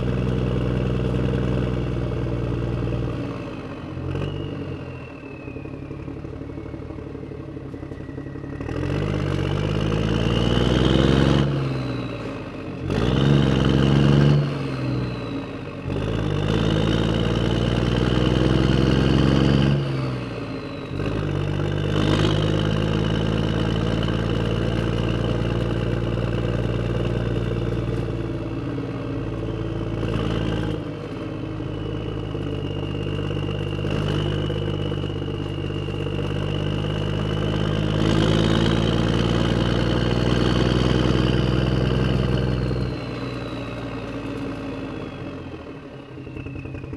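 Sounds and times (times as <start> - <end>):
model excavator motors whining: 0.0 - 46.9.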